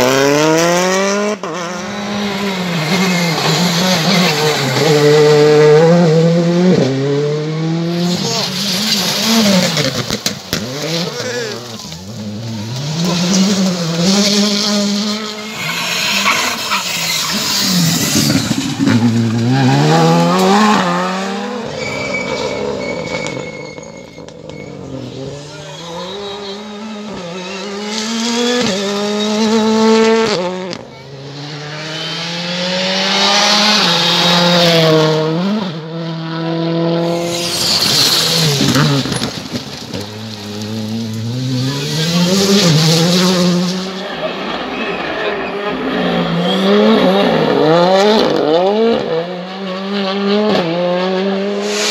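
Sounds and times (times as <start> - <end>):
rally car engines revving hard: 0.0 - 51.9.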